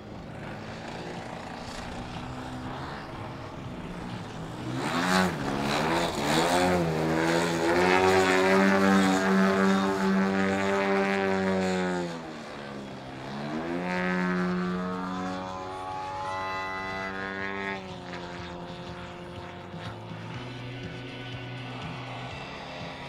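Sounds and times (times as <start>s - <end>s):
model plane engine and propeller: 0.0s - 23.0s.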